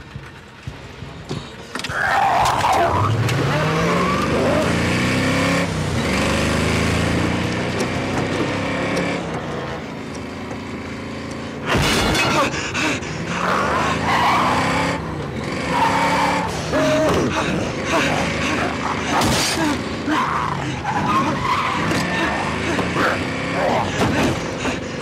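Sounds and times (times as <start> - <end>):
car engine running: 3.0 - 25.0.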